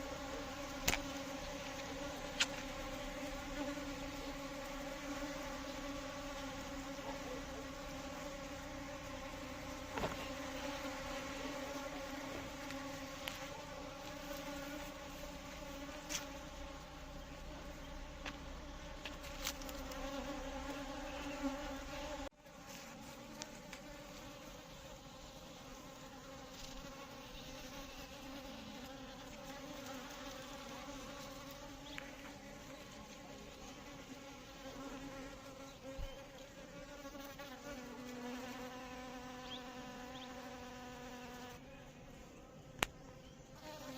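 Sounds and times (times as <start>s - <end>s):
honey bees buzzing: 0.0s - 43.9s.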